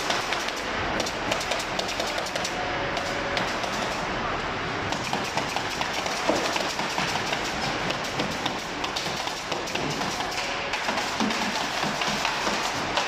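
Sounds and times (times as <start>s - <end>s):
industrial line din: 0.0s - 13.0s.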